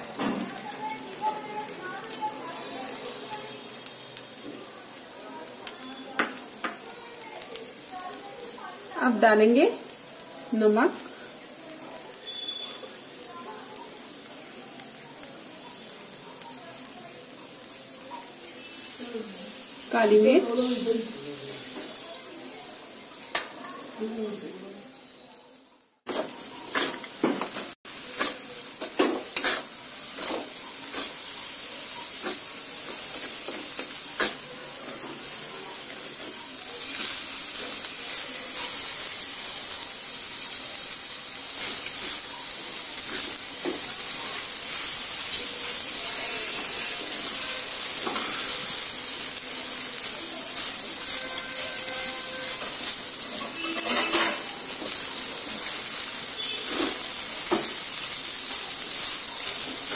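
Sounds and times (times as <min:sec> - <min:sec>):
rice sizzling in a metal pan: 0:00.0 - 0:59.9.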